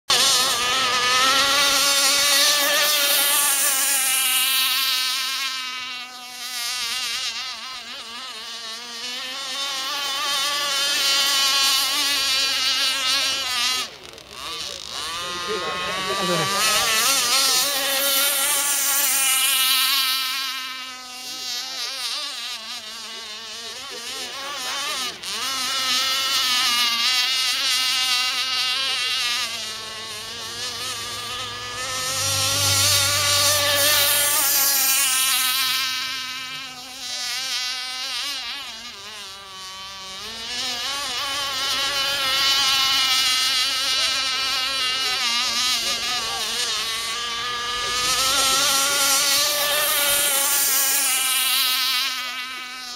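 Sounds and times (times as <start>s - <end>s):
model boat engine buzzing: 0.1s - 52.9s.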